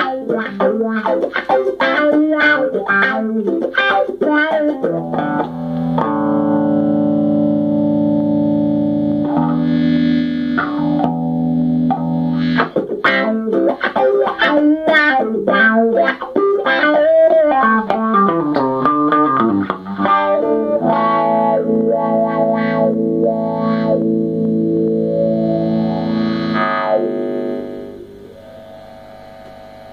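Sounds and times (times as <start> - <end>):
electric guitar chords and notes: 0.0 - 29.9.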